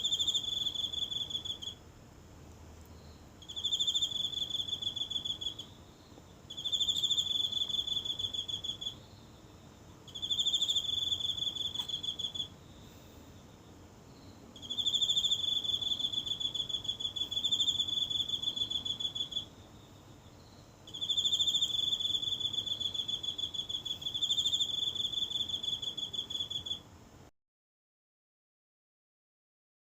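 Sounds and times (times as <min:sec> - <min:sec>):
insect trilling: 0:00.0 - 0:01.8, 0:03.0 - 0:12.8, 0:14.1 - 0:26.8.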